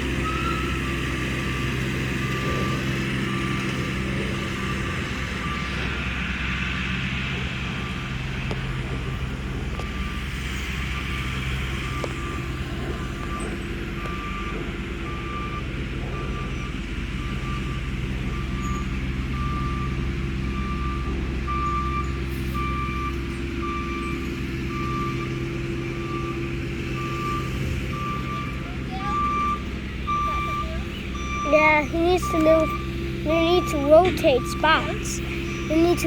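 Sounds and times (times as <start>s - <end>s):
truck engine droning: 0.0s - 36.0s
truck reversing alarm beeping: 0.0s - 36.0s.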